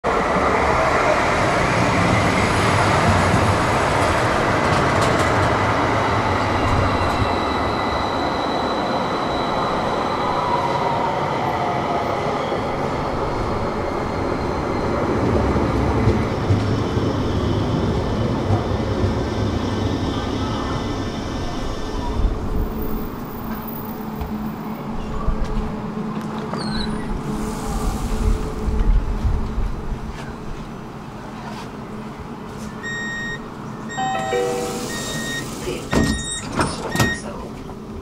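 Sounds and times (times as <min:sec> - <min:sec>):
tram rumbling on rails: 0:00.0 - 0:38.0.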